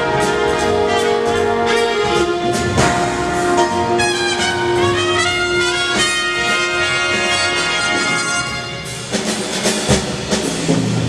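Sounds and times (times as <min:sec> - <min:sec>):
high horn line bending in pitch: 0:00.0 - 0:09.0
big band playing jazz: 0:00.0 - 0:11.0.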